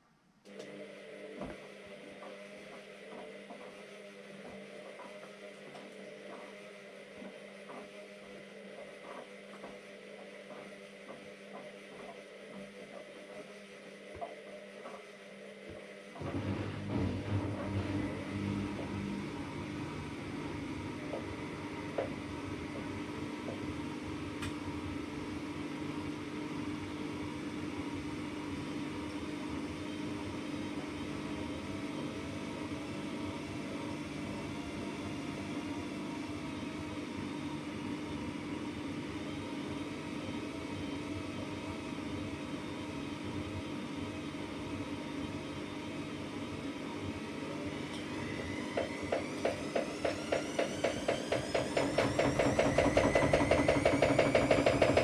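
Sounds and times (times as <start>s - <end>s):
washing machine hum: 0.5s - 55.0s.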